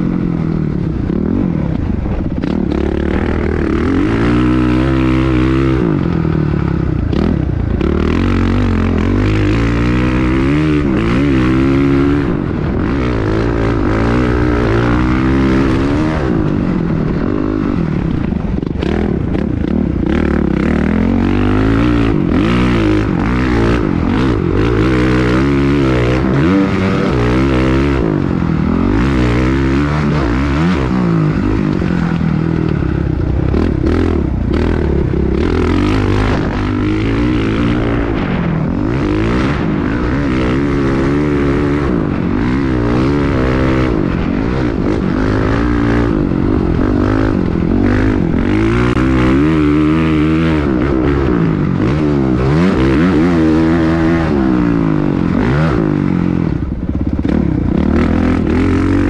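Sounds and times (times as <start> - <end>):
motorcycle engine revving: 0.0 - 59.0
noisy rushes: 0.0 - 59.0.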